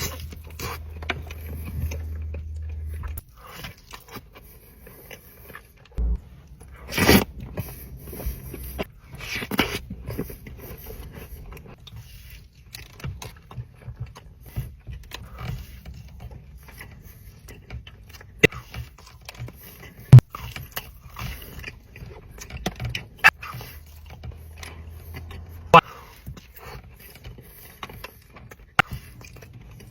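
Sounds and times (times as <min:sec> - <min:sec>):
chewing with crunches: 0:00.0 - 0:29.9.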